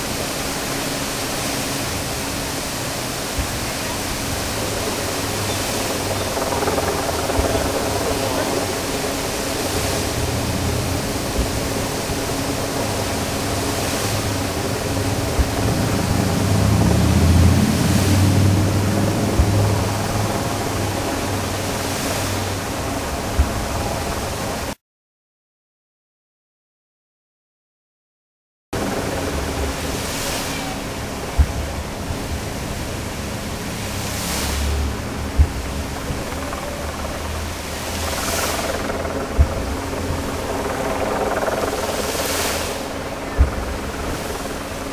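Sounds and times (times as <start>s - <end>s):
fountain water jets splashing: 0.0s - 24.8s, 28.8s - 44.9s
low rumble: 1.9s - 24.8s, 28.8s - 44.9s.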